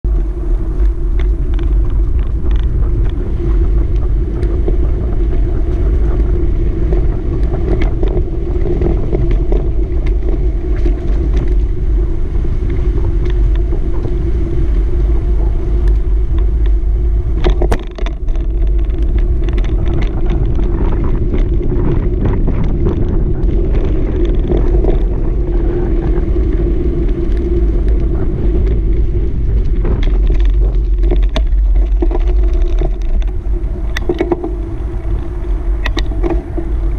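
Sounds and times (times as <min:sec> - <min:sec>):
steady hum: 0:00.0 - 0:36.9
tyre noise: 0:00.0 - 0:36.9
wind buffeting microphone: 0:00.0 - 0:36.9.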